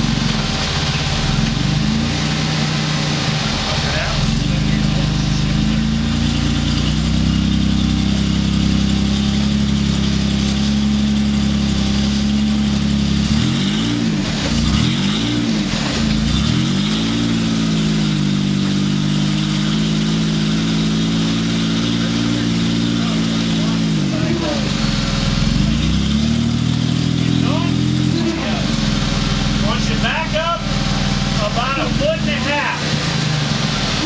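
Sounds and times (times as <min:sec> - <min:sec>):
engine revving: 0:00.0 - 0:34.0
engine running at low revs: 0:00.0 - 0:34.0.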